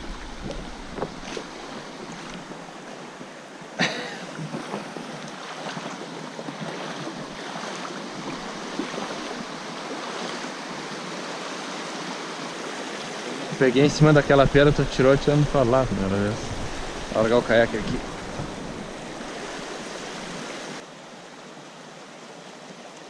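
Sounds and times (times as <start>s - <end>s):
water rushing over rocks: 0.0s - 20.9s.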